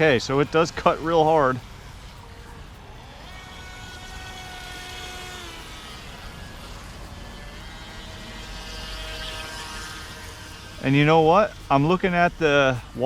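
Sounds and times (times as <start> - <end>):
electric motor of toy boat whining: 0.0 - 13.0.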